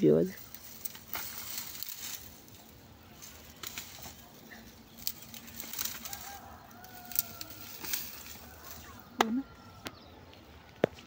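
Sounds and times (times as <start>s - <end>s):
dry grass rustling and crackling: 0.0s - 11.0s.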